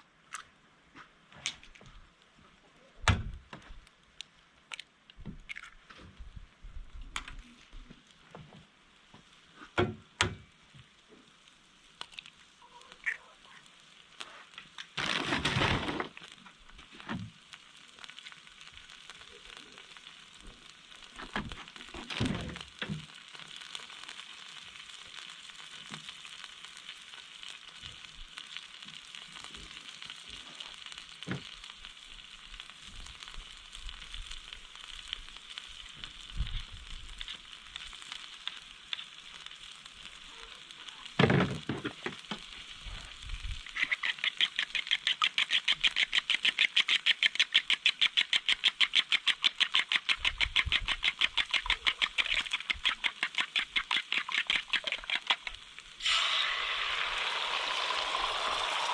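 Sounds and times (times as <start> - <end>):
food sizzling in a pan: 7.4 - 15.2, 16.0 - 58.9.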